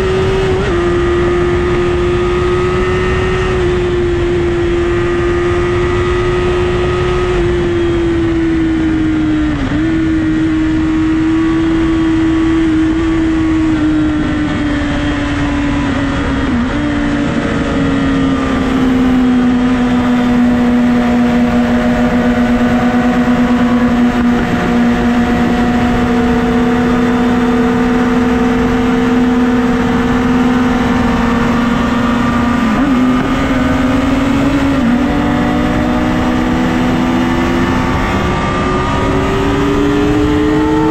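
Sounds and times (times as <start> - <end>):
motorcycle engine cruising: 0.0 - 40.9
wind rush: 0.0 - 40.9.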